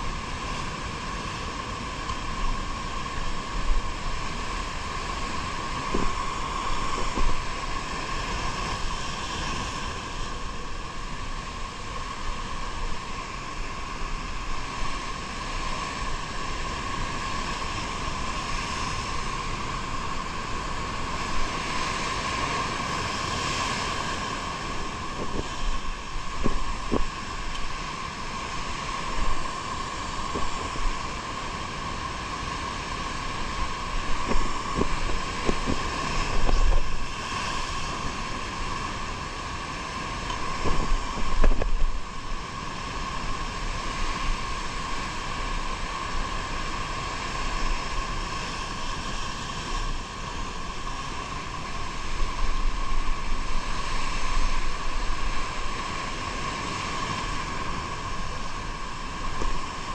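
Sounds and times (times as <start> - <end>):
wind gusting on microphone: 0.0 - 59.9.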